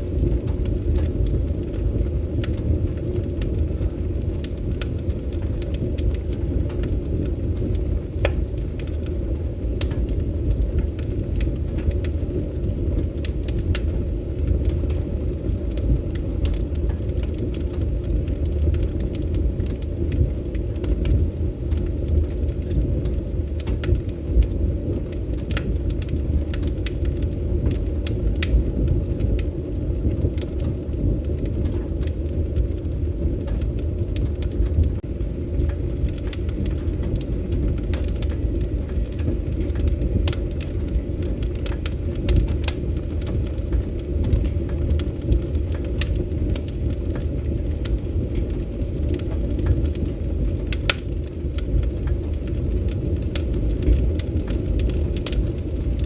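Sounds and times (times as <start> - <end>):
fire crackles and pops: 0.0 - 56.0
wood fire low roar: 0.0 - 56.0.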